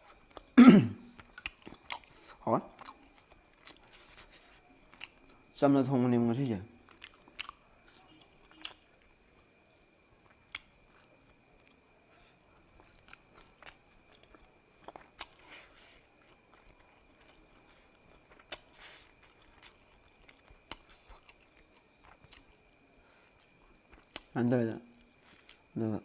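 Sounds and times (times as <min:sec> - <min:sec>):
person chewing: 0:00.1 - 0:05.5, 0:06.8 - 0:25.8.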